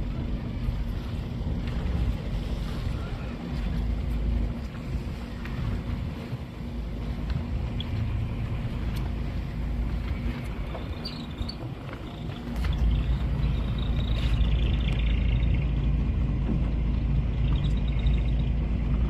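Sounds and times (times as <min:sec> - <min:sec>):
boat engine rumbling: 0:00.0 - 0:19.0
water rushing past hull: 0:00.0 - 0:19.0
wind: 0:00.0 - 0:19.0.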